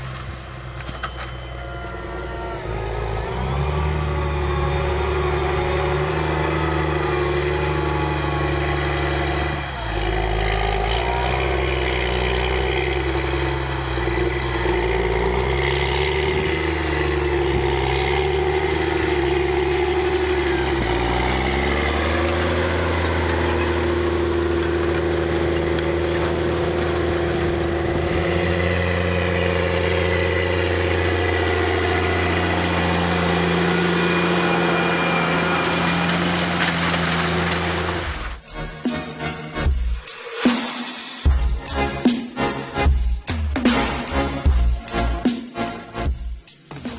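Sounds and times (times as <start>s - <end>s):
tractor diesel engine running: 0.0s - 40.1s.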